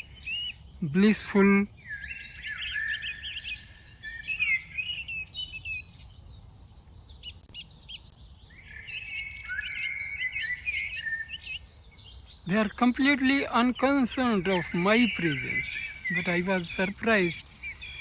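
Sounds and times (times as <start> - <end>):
songbirds chirping and singing: 0.0 - 18.0.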